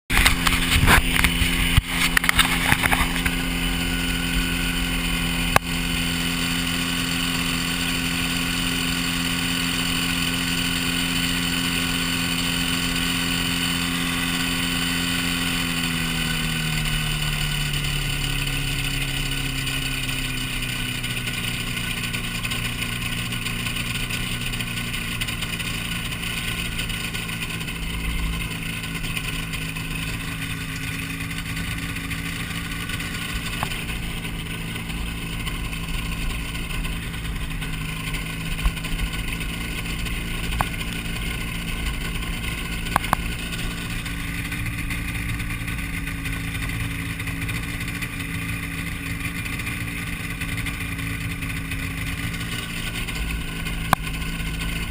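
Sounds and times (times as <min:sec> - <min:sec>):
rough buffeting noise: 0:00.0 - 0:54.9
light airplane engine running: 0:00.1 - 0:54.9.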